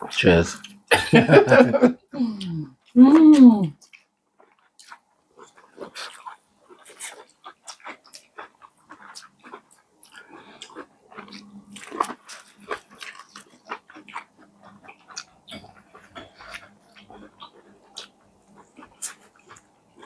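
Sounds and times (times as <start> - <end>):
wet chewing: 2.4 - 20.0.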